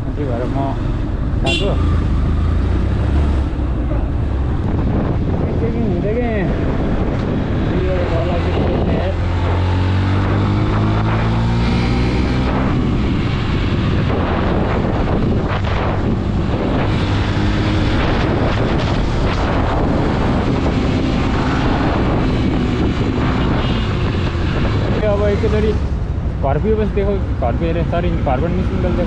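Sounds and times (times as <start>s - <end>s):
wind on microphone: 2.0s - 26.4s.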